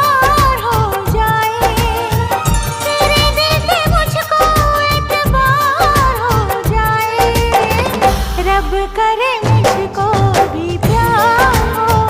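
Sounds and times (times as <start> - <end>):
film song with thumping beat: 0.4 - 12.0.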